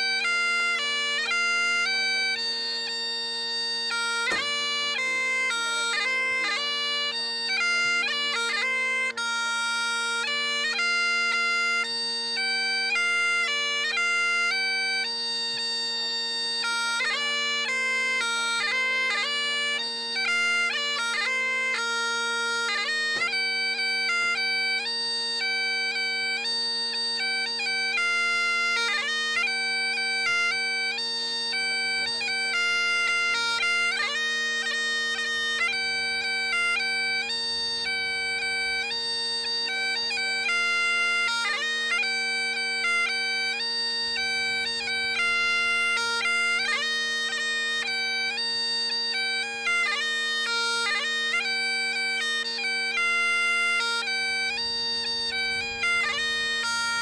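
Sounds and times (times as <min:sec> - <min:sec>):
bagpipes playing a tune: 0:00.0 - 0:57.0.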